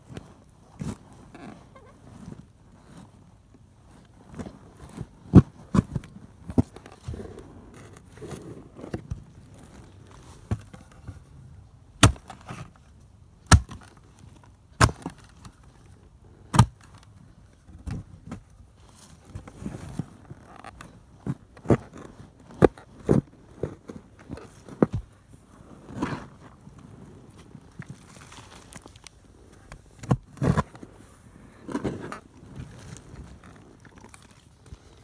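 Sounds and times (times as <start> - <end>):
earth scraping and scuffing: 0.0 - 12.8, 18.0 - 35.0.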